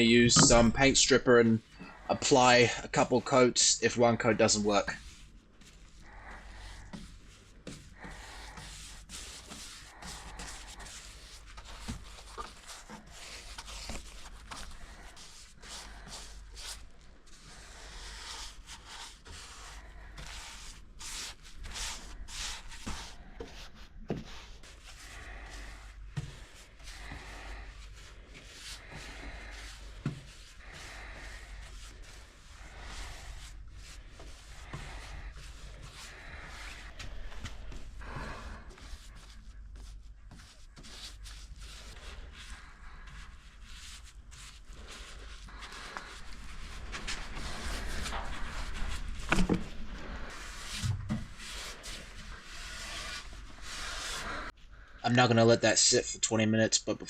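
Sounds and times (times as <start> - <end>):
brush rubbing over wood: 0.0 - 3.4, 4.4 - 54.6.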